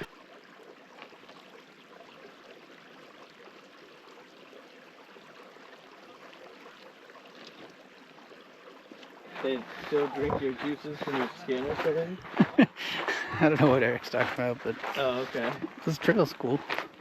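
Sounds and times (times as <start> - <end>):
creek water babbling: 0.0 - 17.0.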